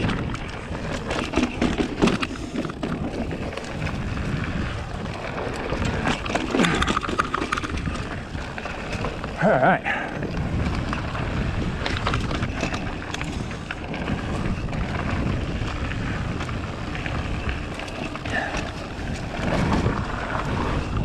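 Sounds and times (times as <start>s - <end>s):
bike knocks and rattles: 0.0s - 20.9s
wind buffeting microphone: 0.0s - 21.0s.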